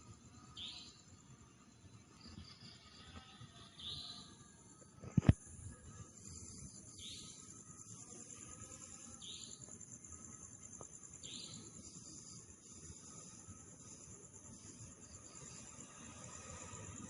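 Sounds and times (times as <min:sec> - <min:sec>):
insects trilling: 0:00.0 - 0:17.0
short higher insect call: 0:00.0 - 0:17.0.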